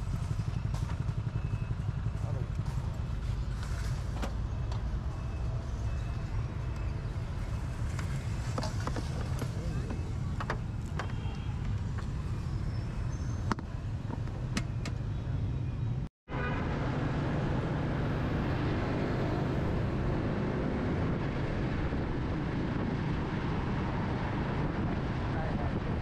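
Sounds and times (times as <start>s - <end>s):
motorbike engine and road rumble: 0.0s - 26.0s.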